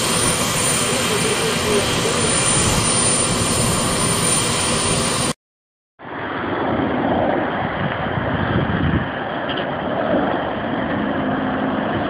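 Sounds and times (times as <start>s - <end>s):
jet engines running: 0.0s - 5.4s, 6.0s - 12.0s.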